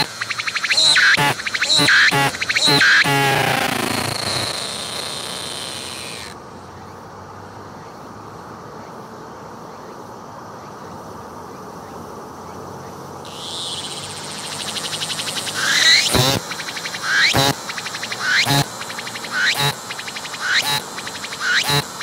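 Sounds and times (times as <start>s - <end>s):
cicada pulsing buzz: 0.0s - 22.0s.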